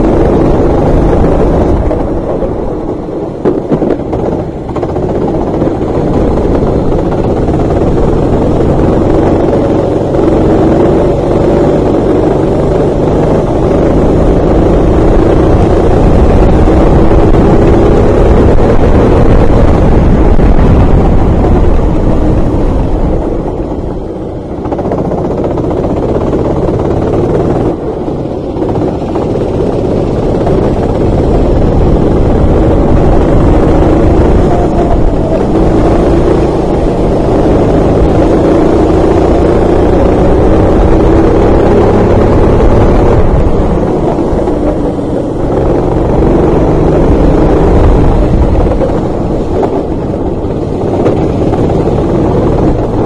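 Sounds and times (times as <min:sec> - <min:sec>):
racing kart engine revving: 0:00.0 - 0:53.0.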